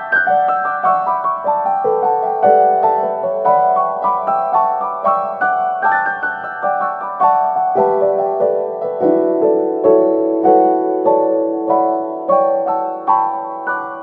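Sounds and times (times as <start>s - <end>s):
keyboard melody: 0.0s - 14.0s.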